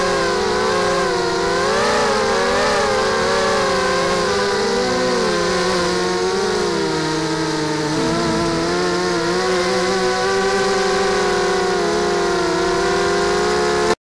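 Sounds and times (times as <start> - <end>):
quadcopter motors buzzing whine: 0.0 - 14.0.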